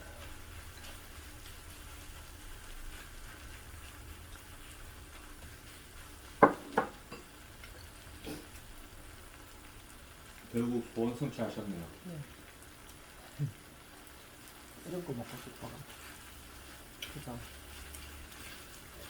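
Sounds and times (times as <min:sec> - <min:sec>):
food frying on griddle: 0:00.0 - 0:19.0.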